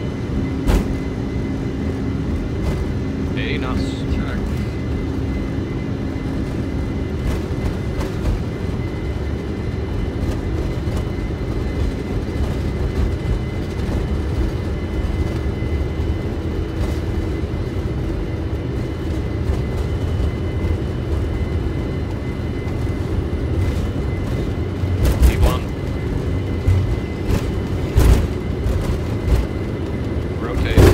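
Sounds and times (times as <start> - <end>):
faint steady whine: 0.0 - 30.9
jet engine and airflow rumble: 0.0 - 30.9.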